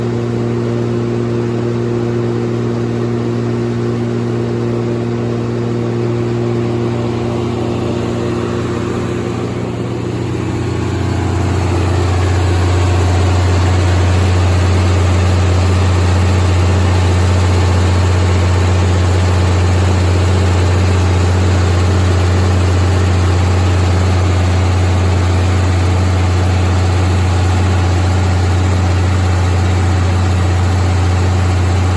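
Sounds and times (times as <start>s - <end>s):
diesel generator running: 0.0s - 31.9s.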